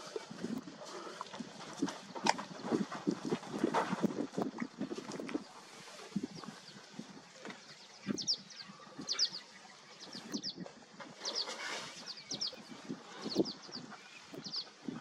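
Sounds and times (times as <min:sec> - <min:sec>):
elephants walking through grass: 0:00.0 - 0:15.0
small birds chirping: 0:00.4 - 0:15.0.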